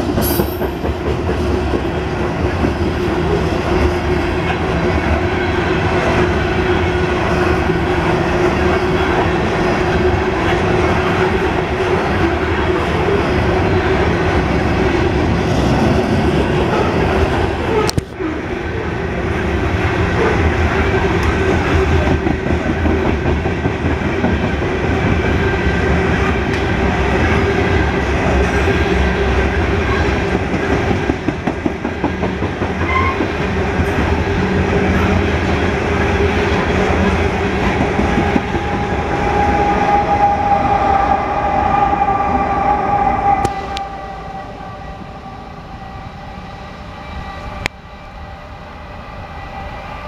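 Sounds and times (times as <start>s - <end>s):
distant diesel locomotive: 0.0s - 50.0s
freight train rumbling past: 0.0s - 50.0s.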